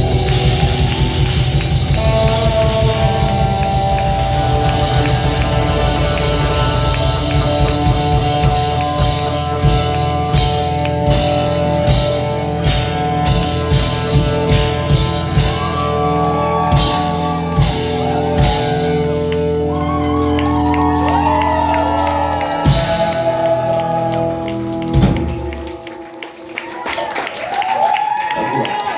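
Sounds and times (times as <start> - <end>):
rock band playing: 0.0 - 26.8.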